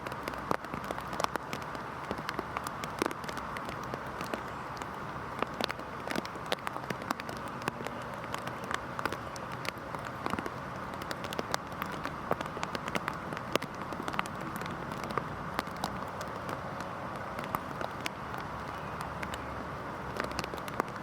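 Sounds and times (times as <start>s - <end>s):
heavy rain falling: 0.0s - 21.0s
sharp raindrop impacts: 0.0s - 21.0s.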